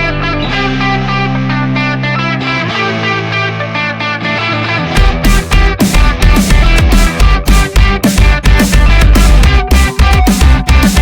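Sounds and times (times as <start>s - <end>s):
electric guitar music: 0.0s - 11.0s
sustained bass: 0.0s - 11.0s.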